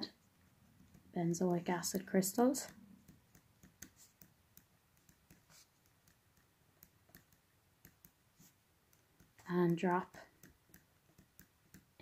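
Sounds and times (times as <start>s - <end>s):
pen scratching on paper: 1.9s - 12.0s.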